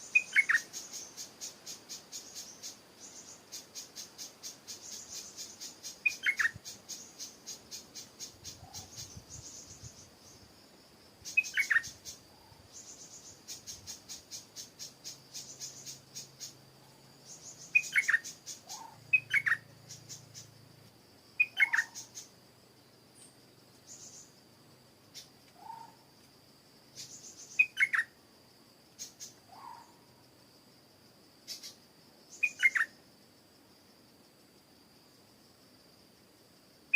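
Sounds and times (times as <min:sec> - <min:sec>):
insects high buzz: 0:00.0 - 0:36.9
insects pulsing trill: 0:00.0 - 0:36.9.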